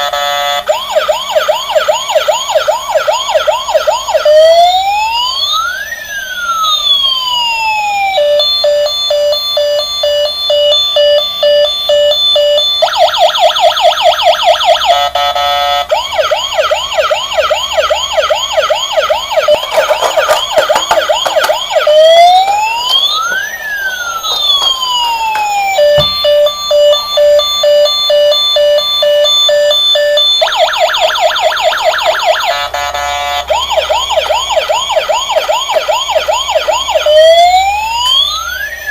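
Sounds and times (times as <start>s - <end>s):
toy electronic siren: 0.0s - 38.9s.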